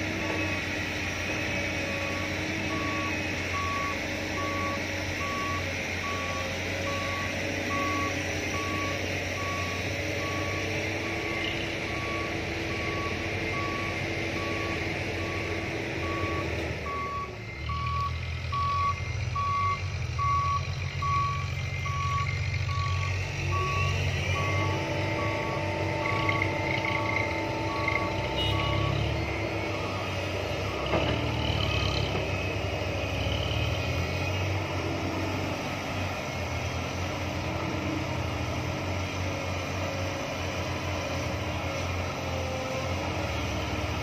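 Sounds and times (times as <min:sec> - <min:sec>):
diesel engine running: 0:00.0 - 0:44.0
truck reversing alarm beeping: 0:00.0 - 0:44.0.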